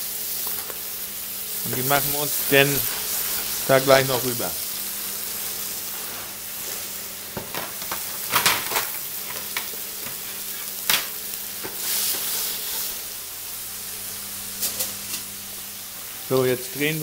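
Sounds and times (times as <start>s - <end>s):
beef sizzling in a frying pan: 0.0s - 17.0s.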